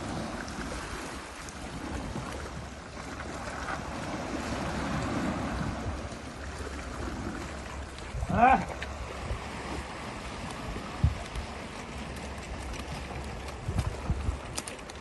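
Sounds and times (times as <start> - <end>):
sea surf washing against rocks: 0.0 - 15.0
wind rumbling on microphone: 0.0 - 15.0.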